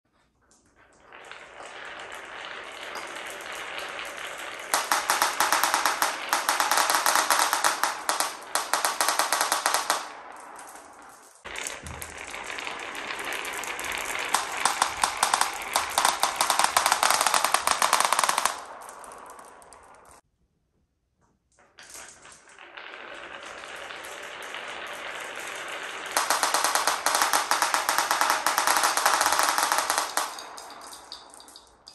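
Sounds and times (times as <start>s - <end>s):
marbles clattering on wooden run: 0.4s - 20.2s, 21.6s - 31.9s.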